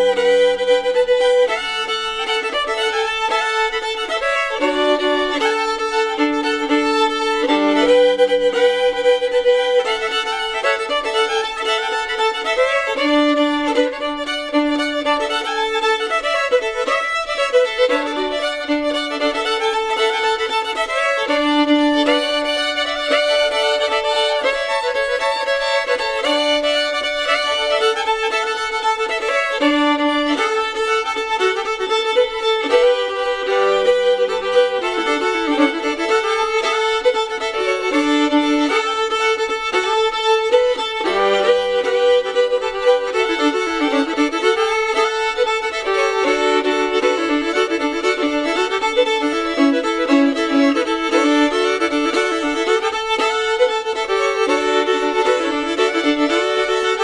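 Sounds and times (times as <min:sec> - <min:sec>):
fiddle melody: 0:00.0 - 0:57.0.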